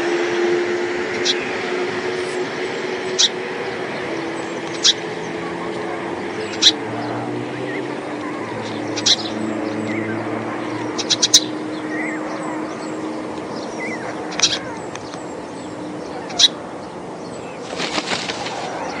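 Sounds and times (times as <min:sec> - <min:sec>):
low drone: 0:00.0 - 0:19.0
road traffic: 0:00.0 - 0:19.0.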